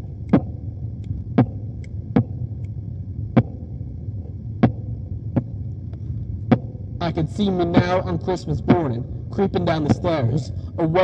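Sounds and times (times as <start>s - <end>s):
low steady drone: 0.0s - 11.0s.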